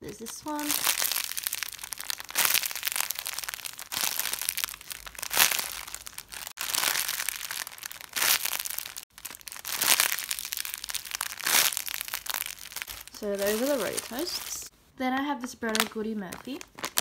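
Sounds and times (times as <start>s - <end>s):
plastic bags crinkling: 0.0s - 14.7s, 15.4s - 17.0s.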